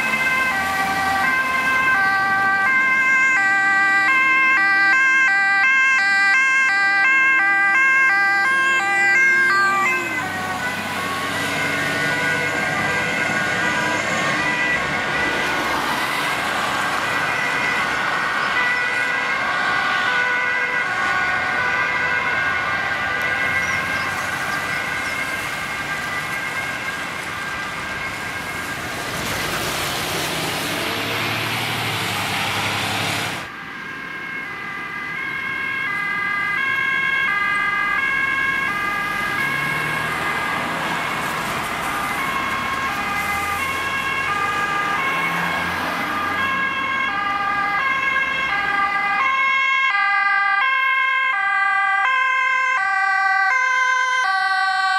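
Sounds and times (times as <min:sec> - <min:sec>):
ambulance two-tone siren: 0:00.0 - 0:54.9
fire engine siren: 0:00.0 - 0:54.9
traffic and engine noise: 0:00.0 - 0:54.9.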